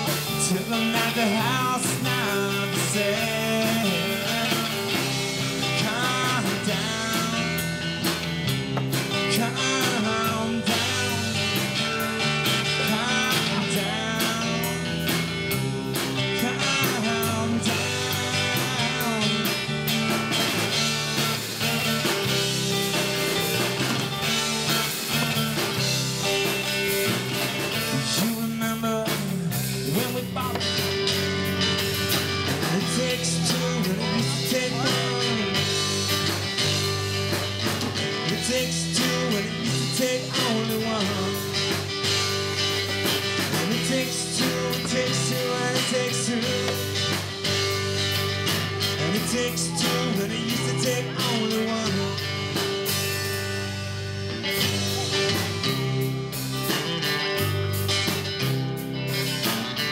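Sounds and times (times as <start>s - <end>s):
rock band playing: 0.0s - 59.9s
sustained electric guitar notes: 0.0s - 59.9s.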